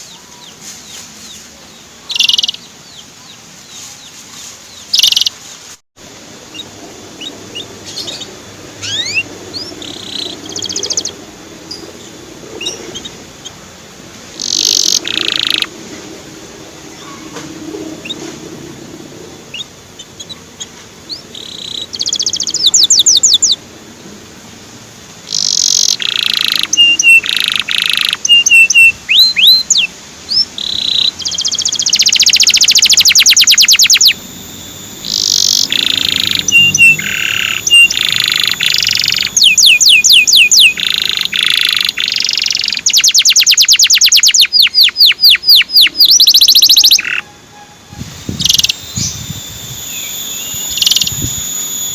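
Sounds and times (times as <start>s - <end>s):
canary singing trills: 0.0s - 5.5s, 6.4s - 13.7s, 14.3s - 15.8s, 16.8s - 18.4s, 19.4s - 23.6s, 25.2s - 51.9s.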